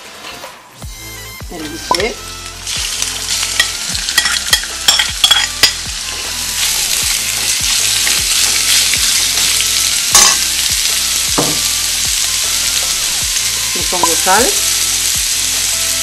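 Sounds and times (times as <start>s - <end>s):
meat sizzling in hot oil: 1.4s - 16.0s.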